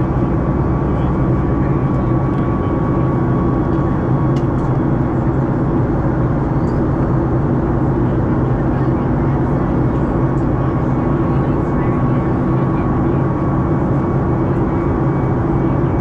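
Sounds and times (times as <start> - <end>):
airplane cabin engine hum: 0.0 - 16.0.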